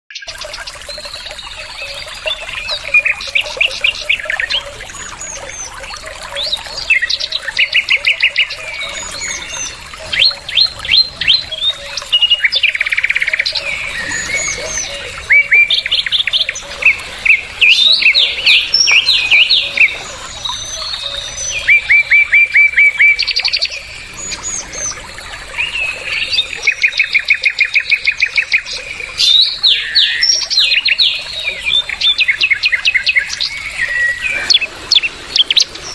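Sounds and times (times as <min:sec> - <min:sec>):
bird singing chirps and trills: 0:00.1 - 0:35.9.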